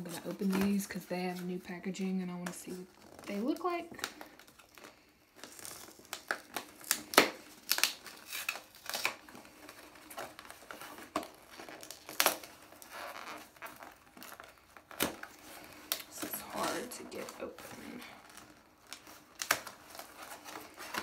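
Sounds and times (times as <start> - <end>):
packaging crinkling and tearing: 0.0 - 21.0.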